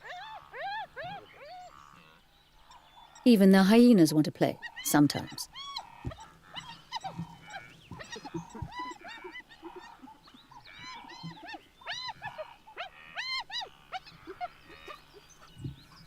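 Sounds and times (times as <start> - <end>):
hyenas squealing and whining: 0.0 - 3.3, 4.6 - 16.0.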